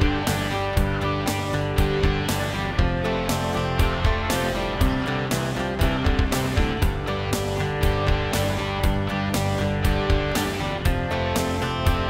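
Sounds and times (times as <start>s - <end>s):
guitar-led song with steady beat: 0.0s - 12.0s.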